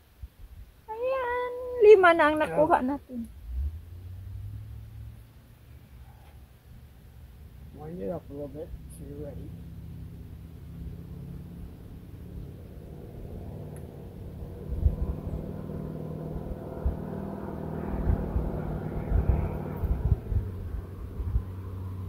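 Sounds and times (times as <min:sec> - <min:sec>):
engine running: 0:01.3 - 0:22.0.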